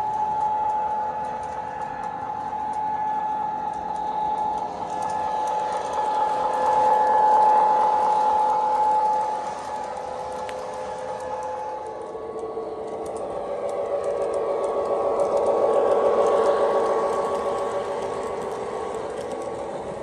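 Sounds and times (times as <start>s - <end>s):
toy train motor whine: 0.0s - 20.0s
wheels clicking on track: 0.0s - 20.0s.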